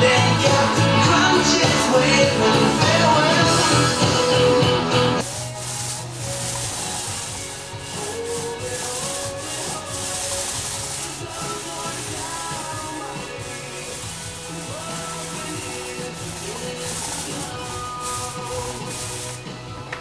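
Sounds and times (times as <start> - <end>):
background music: 0.0 - 20.0
paint roller hissing on wall: 0.2 - 20.0.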